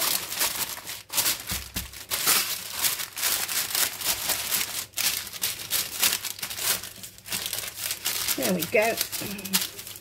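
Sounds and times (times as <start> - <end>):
parchment paper crinkling: 0.0 - 10.0.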